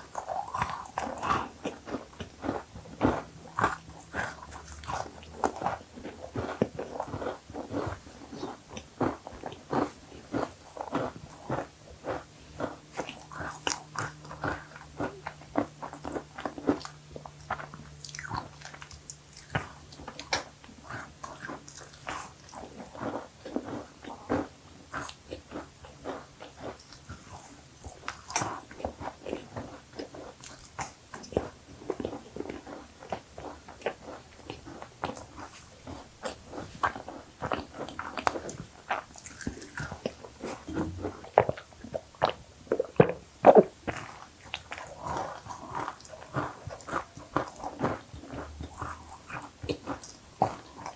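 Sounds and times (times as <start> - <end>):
crunchy cookie chewing: 0.0 - 50.9.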